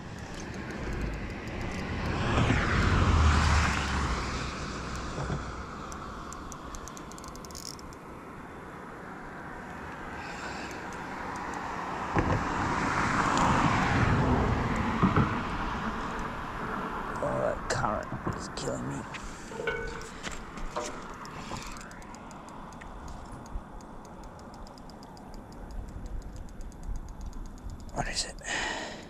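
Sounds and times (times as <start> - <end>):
vehicles passing over bridge: 0.0 - 29.0.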